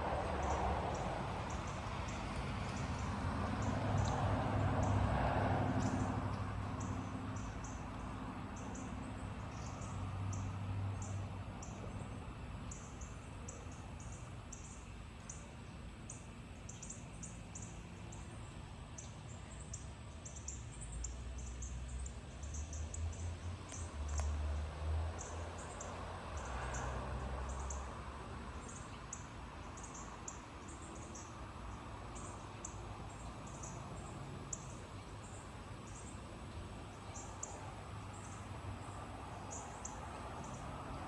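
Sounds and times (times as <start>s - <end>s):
insects chirping: 0.1s - 5.1s, 5.8s - 41.0s.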